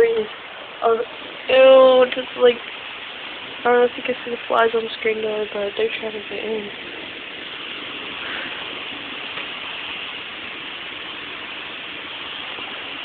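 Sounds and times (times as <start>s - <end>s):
storm wind blowing at window: 0.0s - 13.0s.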